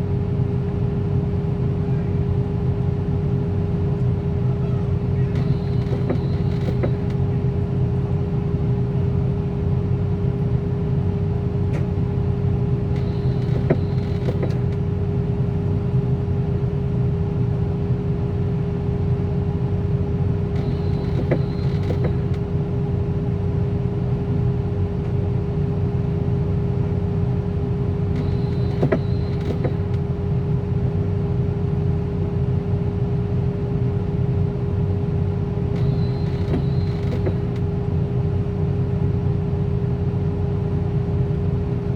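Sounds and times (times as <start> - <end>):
engine idling: 0.1 - 9.0, 10.2 - 16.6, 18.2 - 41.9.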